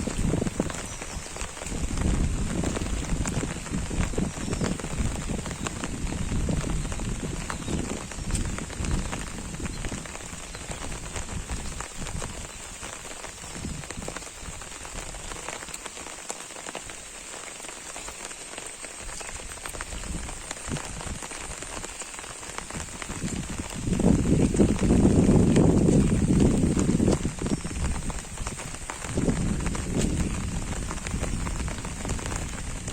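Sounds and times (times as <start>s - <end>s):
rain on an umbrella: 0.0s - 32.9s.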